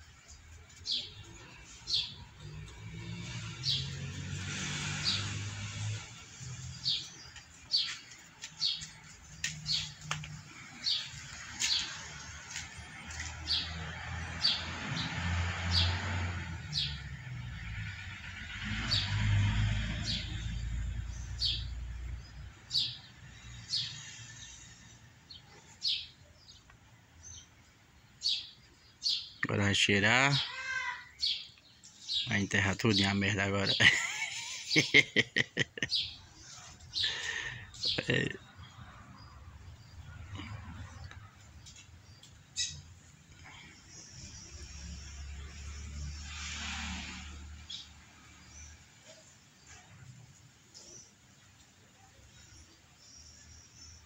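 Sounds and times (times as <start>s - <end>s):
caged birds chirping: 0.0s - 54.0s.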